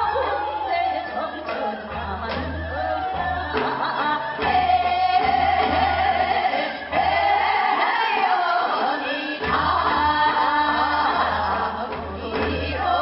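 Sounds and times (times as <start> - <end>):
traditional instrumental ensemble: 0.0 - 13.0
women singing folk song: 0.0 - 13.0.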